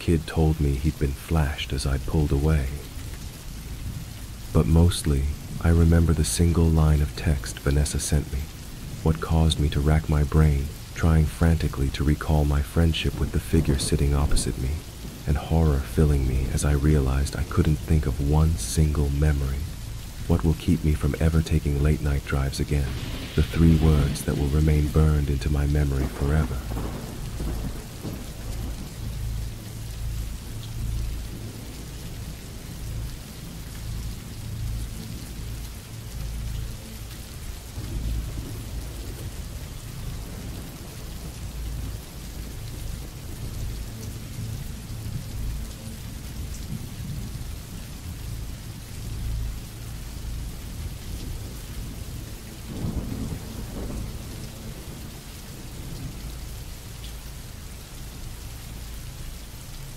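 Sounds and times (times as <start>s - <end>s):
low thunder rumbling: 0.0s - 57.8s
rain falling: 0.0s - 59.9s.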